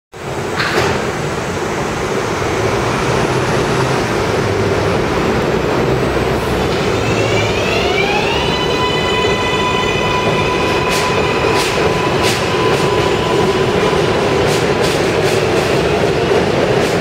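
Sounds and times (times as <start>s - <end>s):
train equipment hum: 0.2s - 17.0s.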